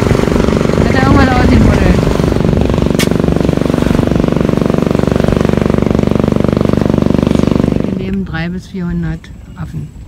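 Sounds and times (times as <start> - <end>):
small boat engine running: 0.0 - 8.5.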